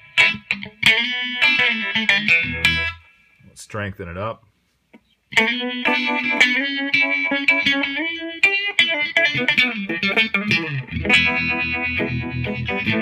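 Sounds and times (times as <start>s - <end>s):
clean electric guitar with vibe effect: 0.0s - 3.5s, 5.3s - 13.0s.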